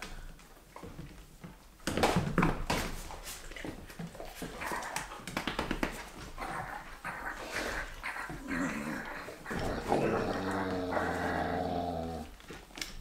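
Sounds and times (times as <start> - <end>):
claws scrabbling on hardwood floor: 0.1 - 13.0.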